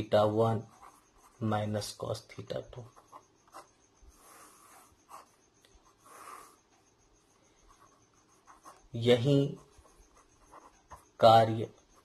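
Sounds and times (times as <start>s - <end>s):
pen scratching on paper: 0.0s - 2.0s, 2.7s - 7.0s, 7.6s - 12.0s.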